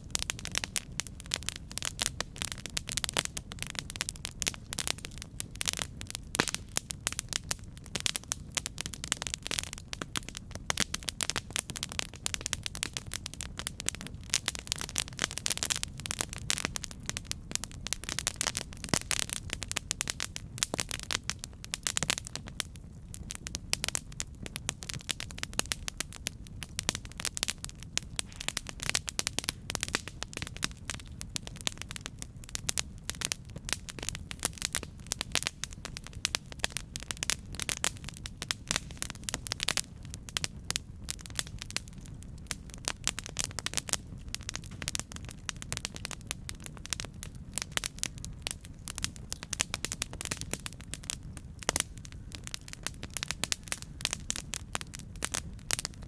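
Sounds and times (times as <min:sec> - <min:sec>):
burning wood crackling: 0:00.0 - 0:56.0
low rumble of flames: 0:00.0 - 0:56.0.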